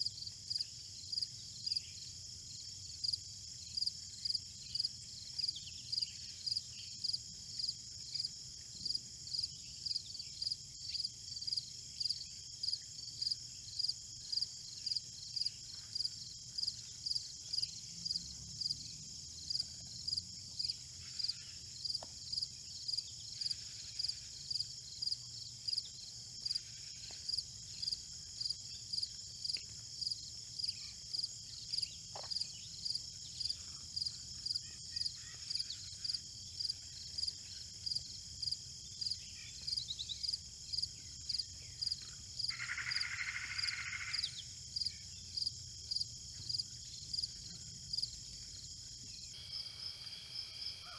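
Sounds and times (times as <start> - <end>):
cricket chirping: 0.0 - 50.9
high-pitched insect trill: 0.1 - 50.9.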